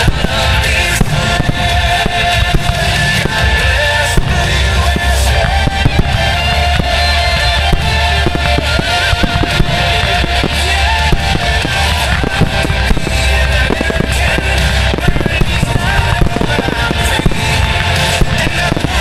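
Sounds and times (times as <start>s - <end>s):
fireworks bangs and crackles: 0.0s - 19.0s
rock music with singing: 0.0s - 19.0s.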